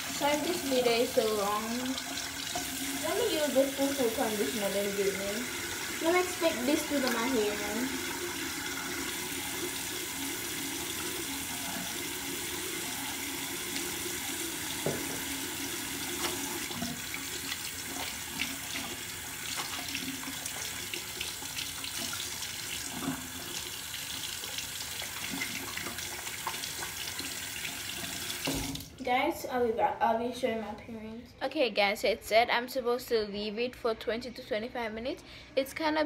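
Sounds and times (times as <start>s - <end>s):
water running from tap into sink: 0.0s - 29.0s.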